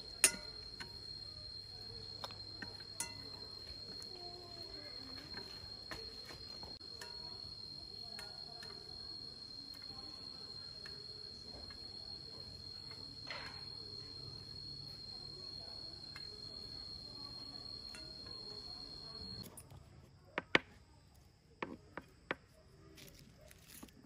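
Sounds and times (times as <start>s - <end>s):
cricket-like insect singing: 0.0s - 19.7s.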